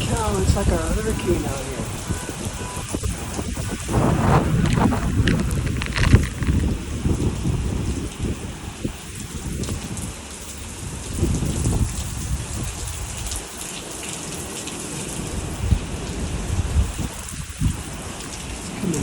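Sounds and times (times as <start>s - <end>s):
wind buffeting microphone: 0.0s - 13.4s, 15.2s - 18.0s
heavy rain pouring: 0.0s - 19.0s.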